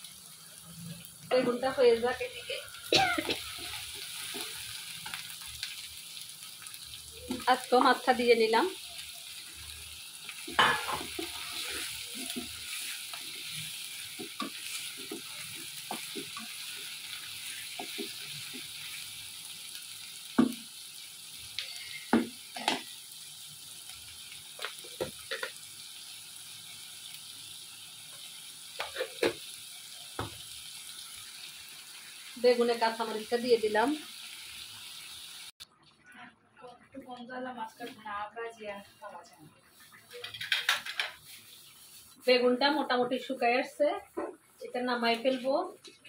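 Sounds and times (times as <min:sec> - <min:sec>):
fish frying in oil sizzling: 0:00.0 - 0:35.9, 0:37.5 - 0:46.0.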